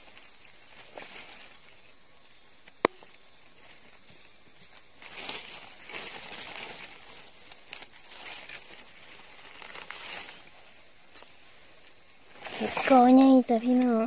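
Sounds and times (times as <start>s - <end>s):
dry leaves rustling and crackling: 0.0s - 14.0s.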